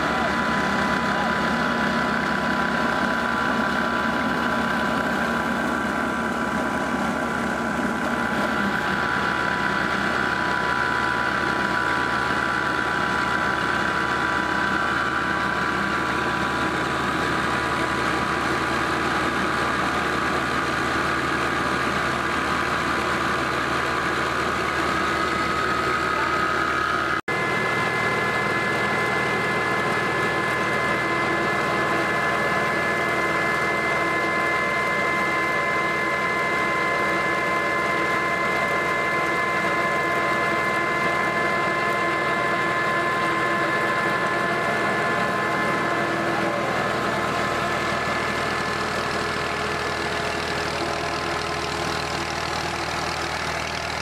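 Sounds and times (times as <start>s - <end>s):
grinding mill running: 0.0s - 54.0s
mill high whine: 0.0s - 54.0s
tractor diesel engine running: 0.0s - 54.0s.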